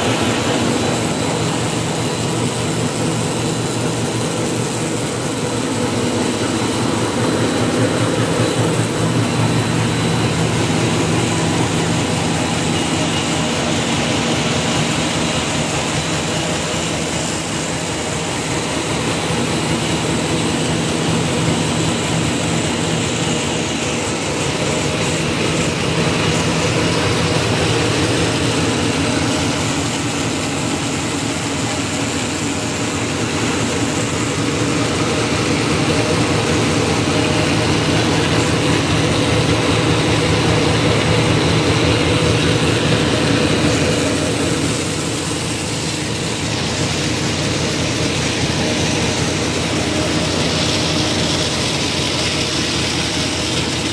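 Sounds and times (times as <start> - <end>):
paper bag machine running: 0.0 - 53.9.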